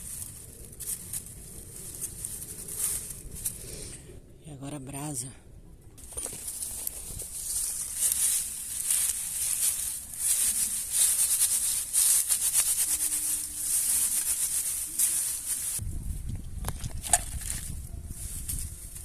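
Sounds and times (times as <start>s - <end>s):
embers being raked: 0.0s - 4.0s, 6.0s - 15.8s, 17.4s - 19.0s.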